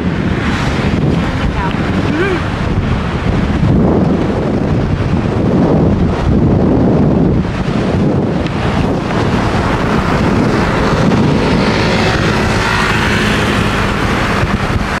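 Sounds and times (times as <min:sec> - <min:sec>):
air and tyre noise: 0:00.0 - 0:15.0
car engine and road rumble: 0:00.0 - 0:15.0.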